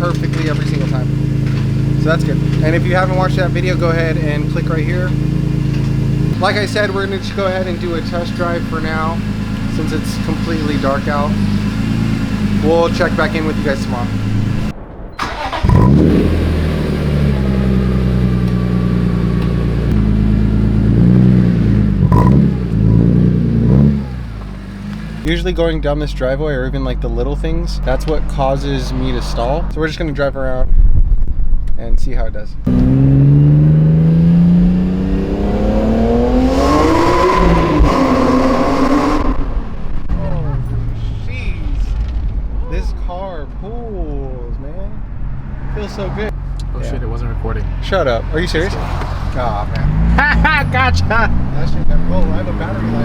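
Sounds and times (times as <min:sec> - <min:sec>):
car engine revving: 0:00.0 - 0:29.8, 0:32.6 - 0:53.0.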